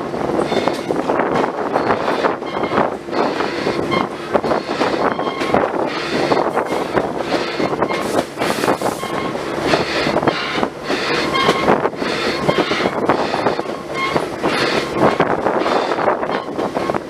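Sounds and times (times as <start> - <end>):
train rumbling: 0.0 - 17.0
wheels clattering on rails: 0.0 - 17.0
wheels squealing: 0.1 - 17.0.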